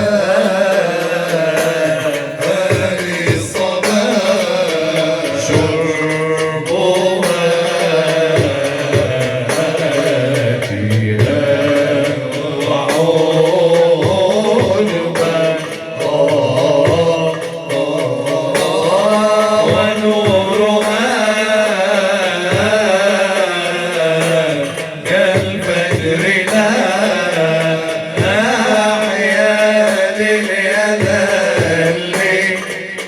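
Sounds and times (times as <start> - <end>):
drum percussion: 0.0 - 33.0
voices singing ornamented melody: 0.0 - 33.0.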